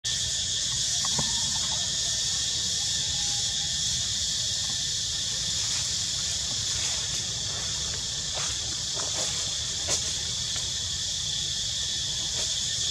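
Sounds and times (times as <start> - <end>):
high-pitched insect chorus: 0.0 - 12.9.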